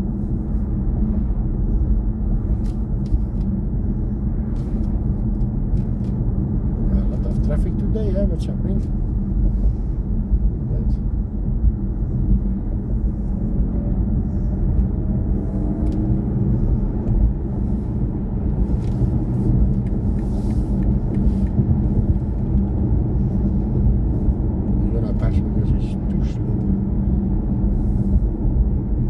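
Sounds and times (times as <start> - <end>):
road and tyre rumble: 0.0 - 29.0.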